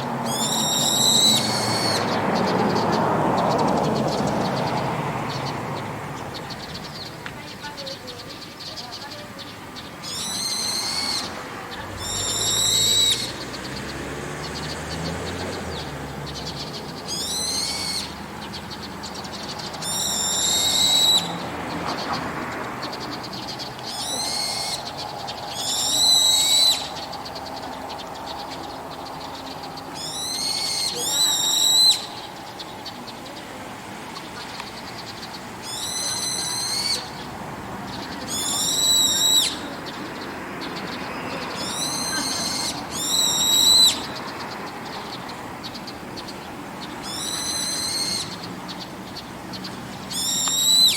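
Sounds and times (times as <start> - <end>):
bird giving shrill rising calls: 0.0 - 7.2, 10.0 - 22.0, 22.8 - 33.0, 34.2 - 37.3, 37.9 - 39.8, 40.7 - 50.9.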